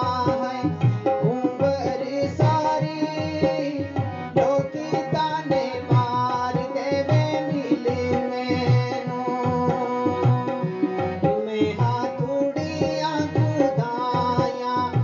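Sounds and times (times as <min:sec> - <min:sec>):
harmonium melody: 0:00.0 - 0:15.0.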